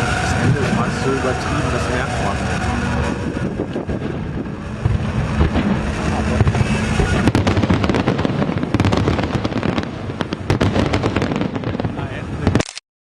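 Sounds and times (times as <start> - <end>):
rumble of bursting fireworks: 0.0 - 12.6
fireworks crackling: 0.0 - 12.7.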